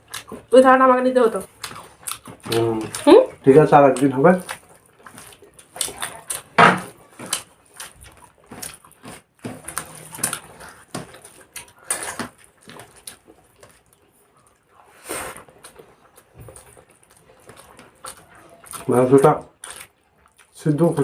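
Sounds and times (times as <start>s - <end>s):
people chewing and lip smacking: 0.0s - 21.0s.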